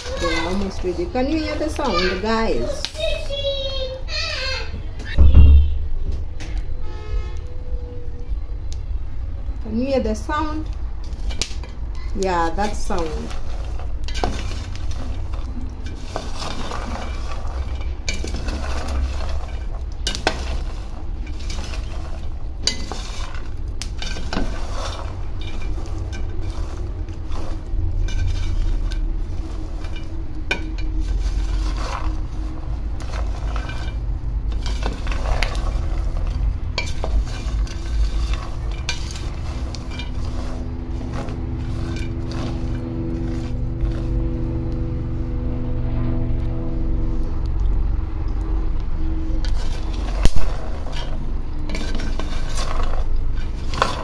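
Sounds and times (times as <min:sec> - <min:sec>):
peanuts rattling in a dry pan: 0:00.0 - 0:03.0, 0:09.7 - 0:45.0, 0:48.4 - 0:54.0
crackling: 0:00.0 - 0:54.0.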